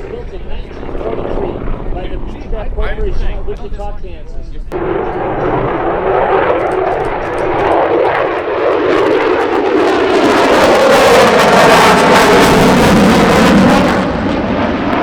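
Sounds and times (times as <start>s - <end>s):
airplane piston engines in flight: 0.0s - 15.0s.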